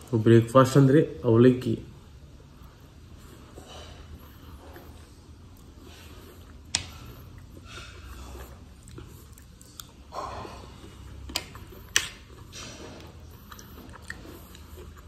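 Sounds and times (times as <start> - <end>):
person chewing food: 2.4 - 15.0.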